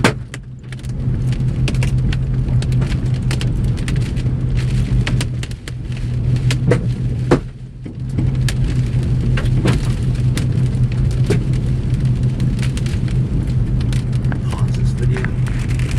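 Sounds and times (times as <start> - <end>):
rain ticking on a vehicle: 0.0 - 15.9
vehicle running hum: 0.0 - 15.9.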